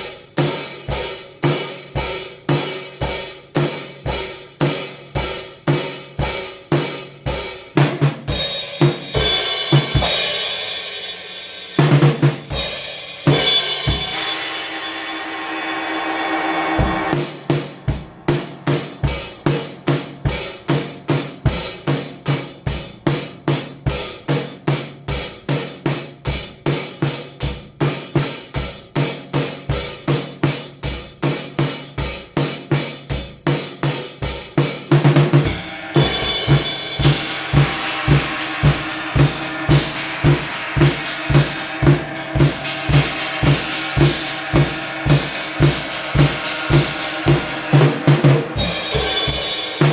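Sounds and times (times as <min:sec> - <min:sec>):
drum kit beat: 0:00.0 - 0:49.9.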